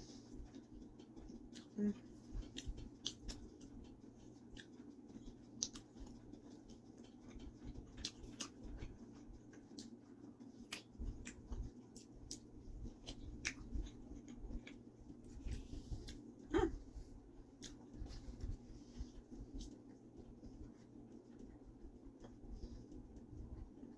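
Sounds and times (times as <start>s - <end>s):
faint steady hum: 0.0s - 23.9s
person chewing food: 0.0s - 23.9s.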